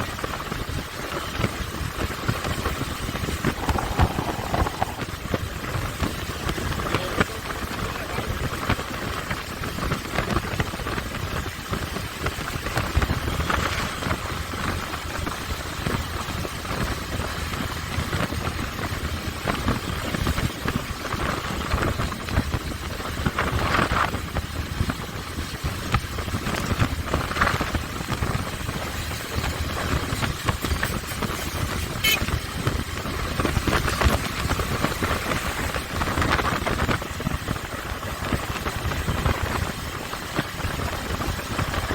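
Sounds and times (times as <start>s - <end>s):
motorcycle engine running: 0.0s - 41.9s
wind noise on microphone: 0.0s - 41.9s.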